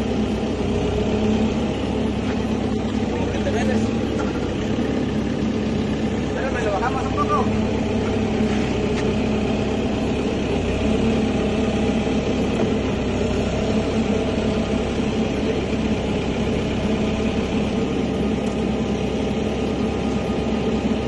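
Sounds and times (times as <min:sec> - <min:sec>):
construction machine engine idling: 0:00.0 - 0:21.0.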